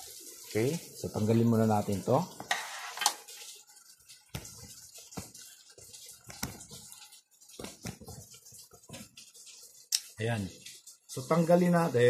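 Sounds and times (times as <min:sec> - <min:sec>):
rain drops dripping: 0:00.0 - 0:12.0.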